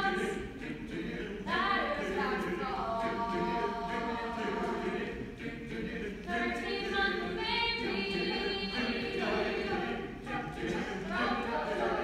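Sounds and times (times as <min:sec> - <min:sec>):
mixed choir singing in harmony: 0:00.0 - 0:12.0.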